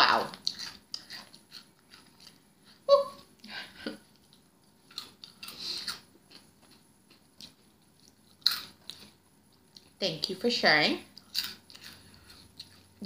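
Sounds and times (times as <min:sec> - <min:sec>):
crunching and chewing snacks: 0:00.3 - 0:02.8, 0:04.0 - 0:10.0, 0:11.1 - 0:13.0.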